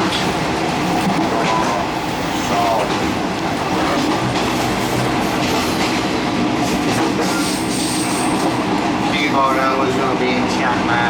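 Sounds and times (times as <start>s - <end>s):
train carriage rumble and rattle: 0.0s - 11.0s.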